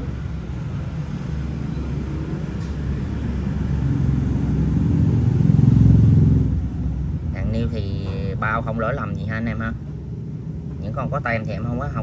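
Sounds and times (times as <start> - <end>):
passing vehicle engine rumbling: 0.0 - 12.0.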